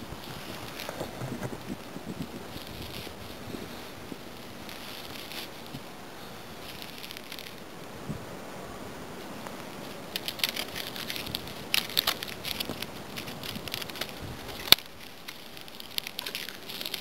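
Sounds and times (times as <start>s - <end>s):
twigs crackling and snapping: 0.0s - 7.9s, 9.2s - 17.0s.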